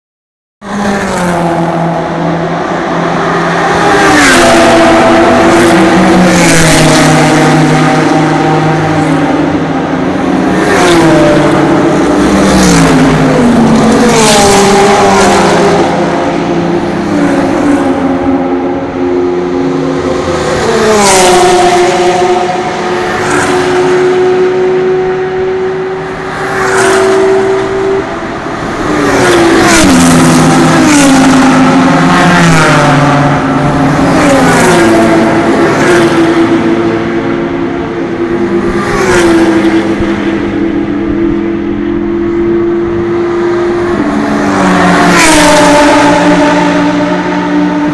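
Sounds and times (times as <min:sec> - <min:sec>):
race cars passing at full throttle: 0:00.6 - 0:47.9.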